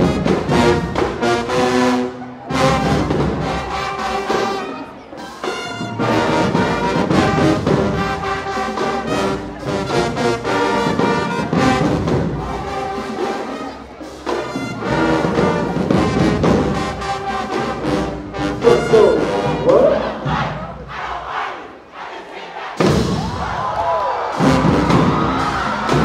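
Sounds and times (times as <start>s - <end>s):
marching drums: 0.0s - 21.5s, 22.6s - 26.0s
trombones and trumpets playing: 0.0s - 21.5s.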